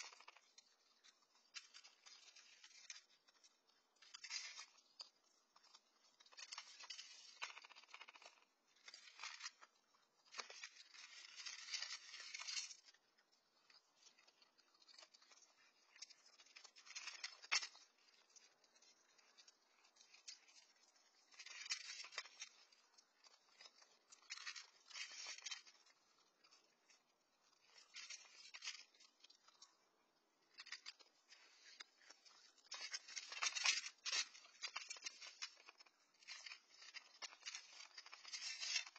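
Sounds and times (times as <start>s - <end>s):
animals crunching dry kibble: 0.0s - 38.9s.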